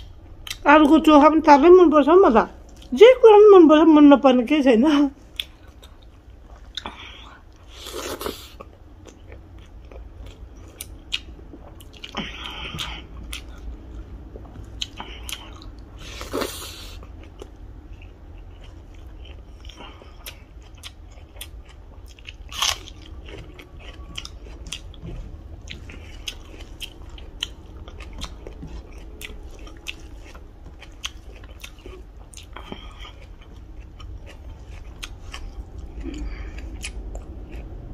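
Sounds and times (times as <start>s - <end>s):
person chewing food: 0.0s - 0.6s, 2.6s - 2.9s, 5.2s - 37.9s.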